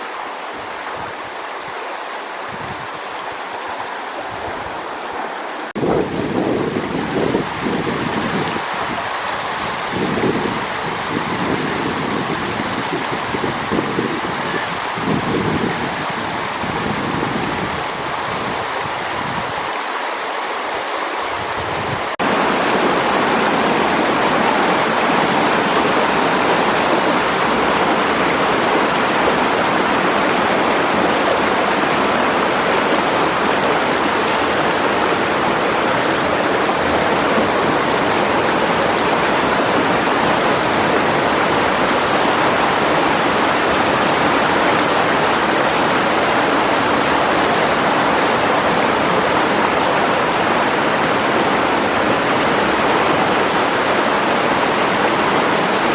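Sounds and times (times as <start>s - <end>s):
low wind buffeting: 0.0s - 55.9s
stream water rushing: 0.0s - 55.9s.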